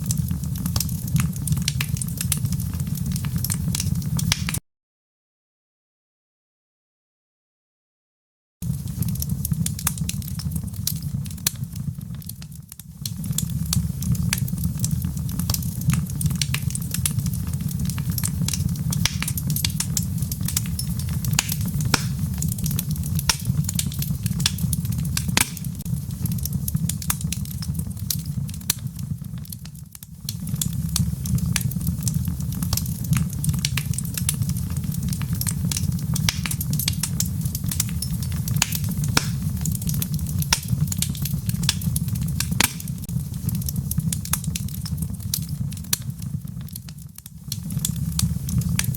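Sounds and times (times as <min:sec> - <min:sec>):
low rumble of flames: 0:00.0 - 0:04.6, 0:08.6 - 0:48.9
wood fire crackling: 0:00.0 - 0:04.6, 0:08.6 - 0:48.9.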